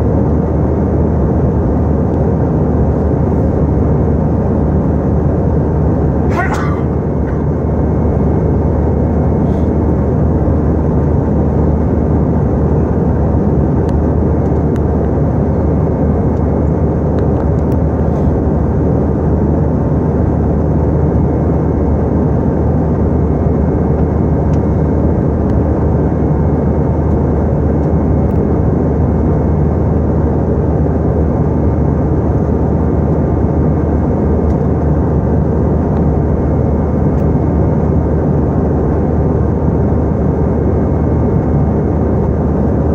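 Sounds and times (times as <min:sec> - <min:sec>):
airliner cabin engine rush: 0:00.0 - 0:42.9
even low hum: 0:00.0 - 0:42.9.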